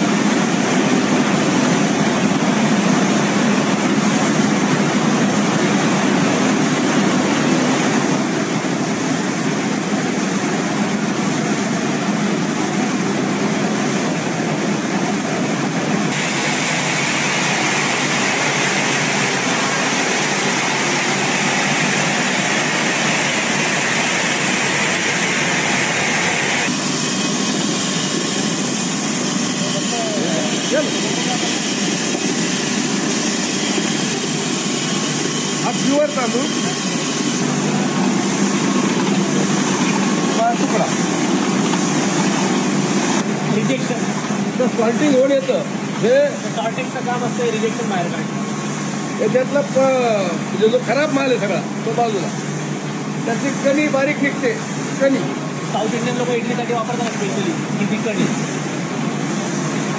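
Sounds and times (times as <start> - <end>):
rice mill machinery running: 0.0 - 59.9.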